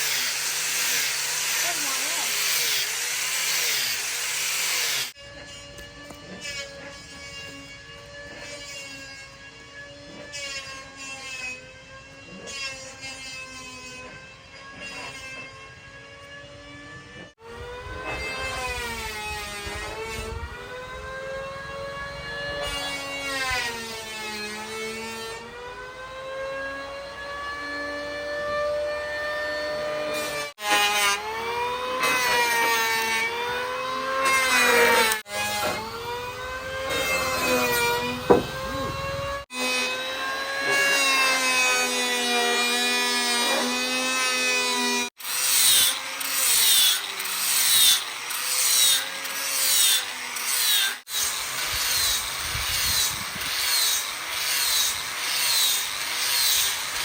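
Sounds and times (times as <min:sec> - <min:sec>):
power tool cutting wood: 0:00.0 - 0:57.0.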